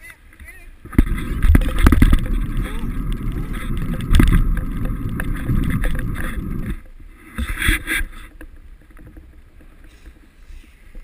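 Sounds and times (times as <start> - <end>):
bicycle road rumble: 0.0 - 11.0
wind buffeting microphone: 0.8 - 9.7.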